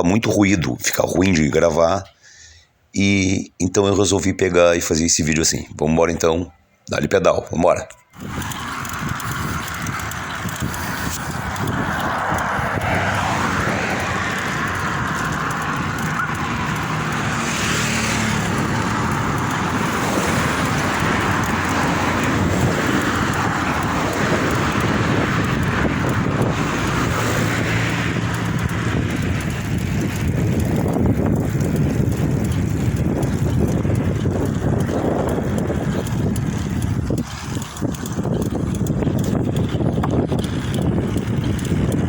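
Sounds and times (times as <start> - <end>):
passing vehicles road noise: 7.0 - 42.0
strong wind on microphone: 8.1 - 42.0.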